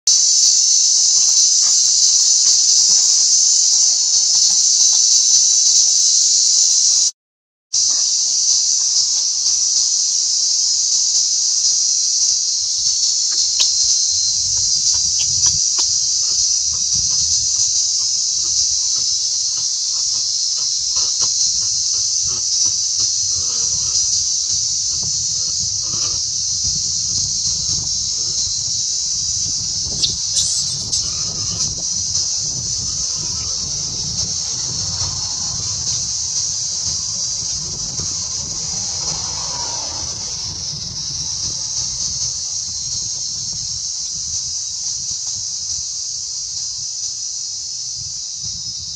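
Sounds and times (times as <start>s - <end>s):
insects droning: 0.1s - 7.1s, 7.8s - 48.9s.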